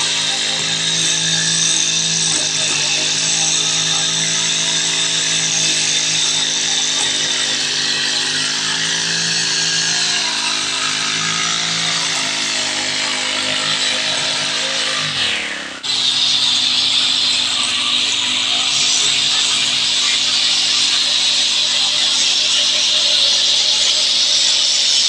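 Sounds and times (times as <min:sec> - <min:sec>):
brush cutter engine running: 0:00.0 - 0:25.0.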